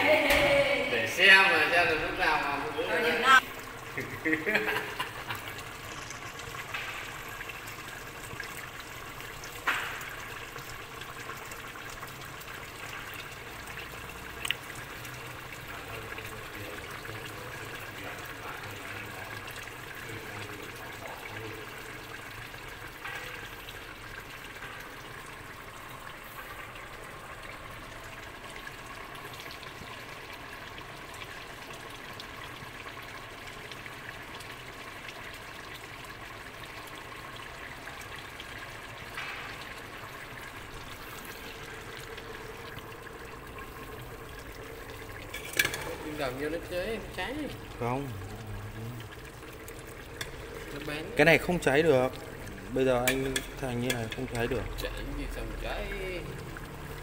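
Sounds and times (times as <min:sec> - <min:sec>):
stew bubbling in a pot: 0:00.0 - 0:57.0.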